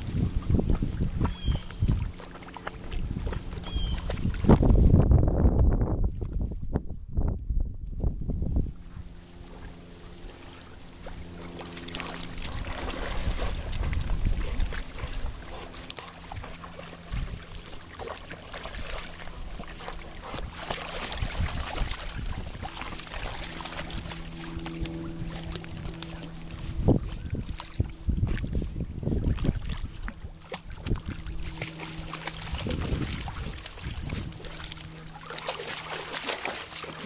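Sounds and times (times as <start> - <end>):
dogs splashing in water: 0.0 - 5.0, 9.1 - 37.0.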